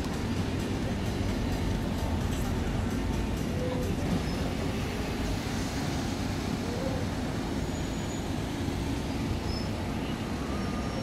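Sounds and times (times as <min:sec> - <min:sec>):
cars passing with low rumble: 0:00.0 - 0:11.0.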